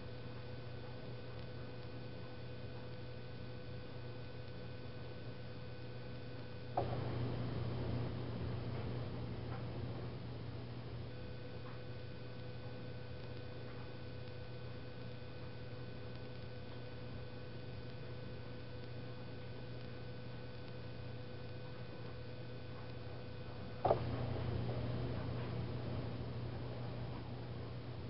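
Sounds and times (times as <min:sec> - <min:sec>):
faint steady whine: 0:00.0 - 0:28.0
low electrical hum: 0:00.0 - 0:28.0.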